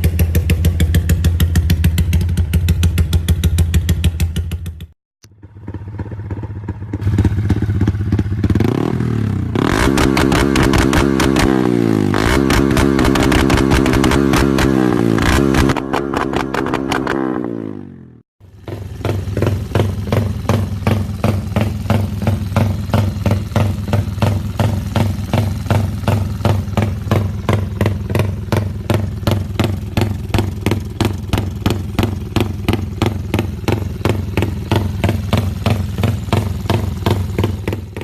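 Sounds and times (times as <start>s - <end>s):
motorcycle idling: 0.0s - 12.0s, 12.6s - 38.0s.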